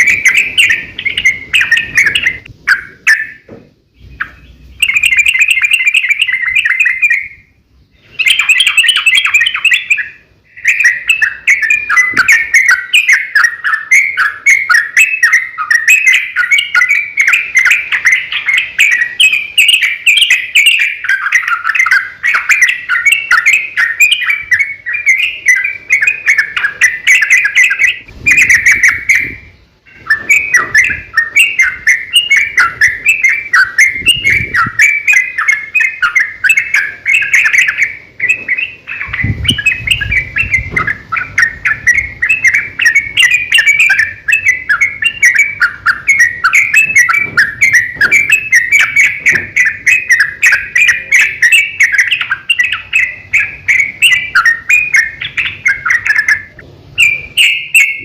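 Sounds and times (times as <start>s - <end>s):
bird singing chattering song: 0.0s - 58.0s.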